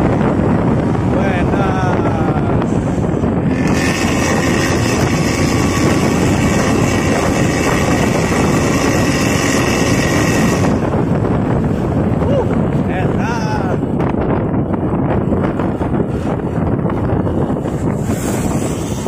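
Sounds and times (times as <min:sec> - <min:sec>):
highway traffic noise: 0:00.0 - 0:19.0
wind buffeting microphone: 0:00.0 - 0:19.0.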